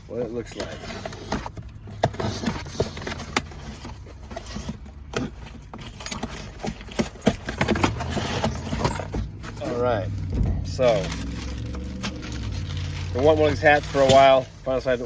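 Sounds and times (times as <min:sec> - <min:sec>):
packaging rustling and crinkling: 0:00.2 - 0:15.0.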